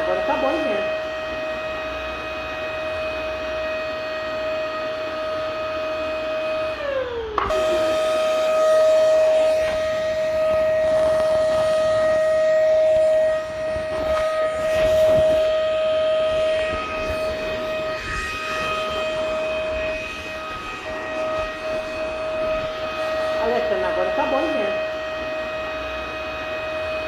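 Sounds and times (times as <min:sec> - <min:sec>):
vacuum cleaner motor whining: 0:00.0 - 0:27.0.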